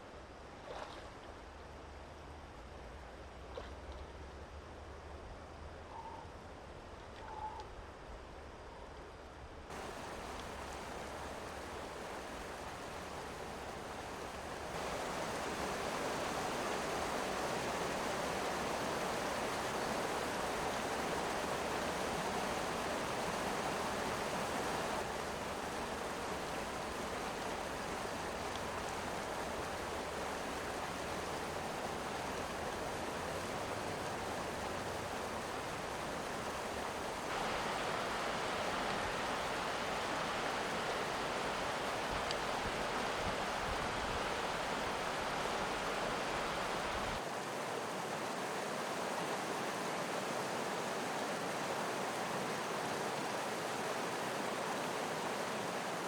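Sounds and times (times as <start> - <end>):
mountain river rushing: 9.7 - 56.0.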